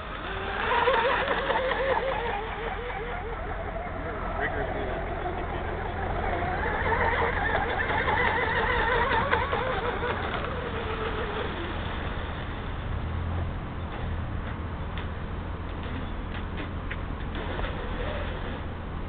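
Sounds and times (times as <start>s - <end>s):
electric boat motor whine: 0.0s - 14.0s, 17.1s - 19.0s.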